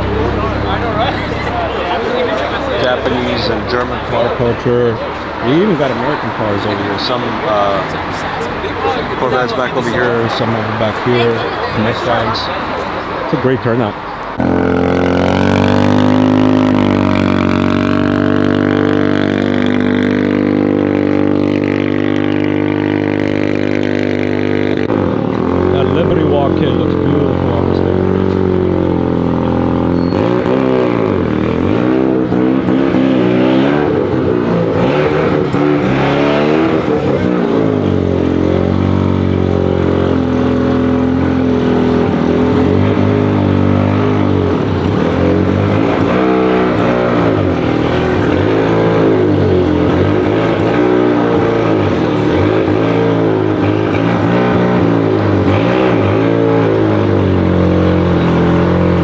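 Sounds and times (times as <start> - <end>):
car engines idling and passing: 0.0 - 59.0.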